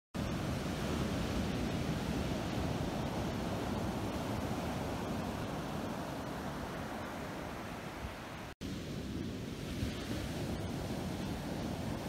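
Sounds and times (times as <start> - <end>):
surf on a pebble beach: 0.2 - 12.0.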